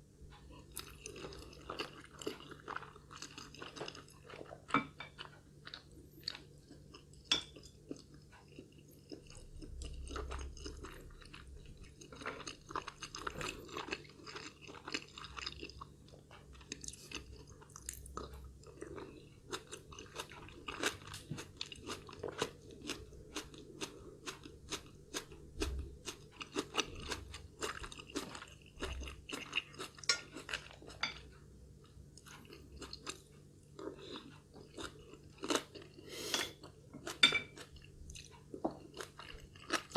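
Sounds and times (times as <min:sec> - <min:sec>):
person chewing crunchy food: 0:00.3 - 0:39.9.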